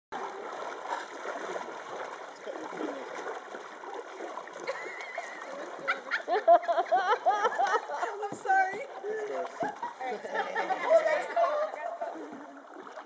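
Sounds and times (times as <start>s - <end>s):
paddles stroking through water: 0.1s - 13.0s.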